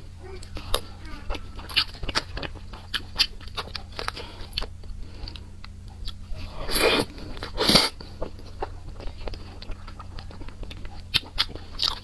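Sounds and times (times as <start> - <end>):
wet mouth clicks and chewing: 0.0 - 12.0
loud crunching bites: 0.2 - 12.0.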